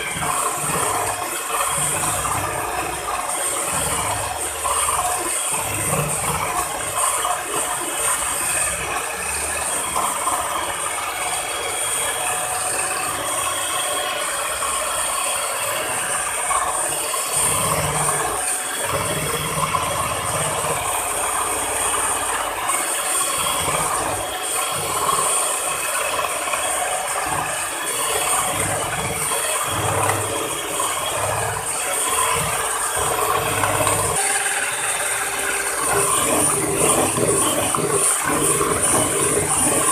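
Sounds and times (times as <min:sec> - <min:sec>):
electric hand mixer whipping: 0:00.0 - 0:39.9.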